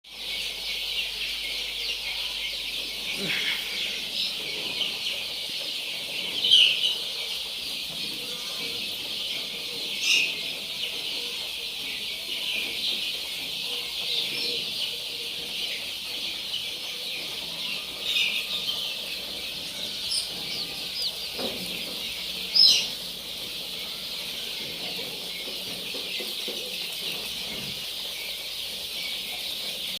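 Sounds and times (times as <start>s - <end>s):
chicks peeping: 0.1s - 30.0s.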